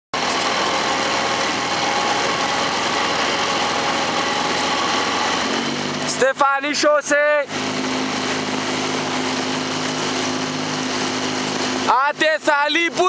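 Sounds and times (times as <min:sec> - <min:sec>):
boat outboard motor running: 0:00.1 - 0:13.0.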